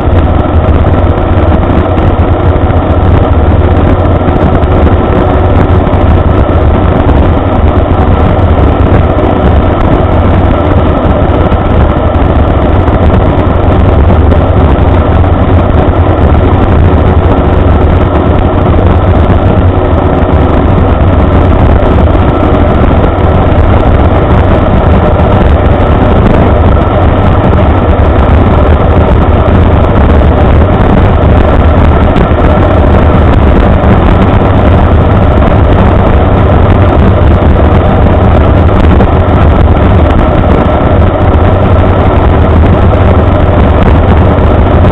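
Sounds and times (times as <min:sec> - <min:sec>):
aircraft engine and propeller drone: 0:00.0 - 0:44.9.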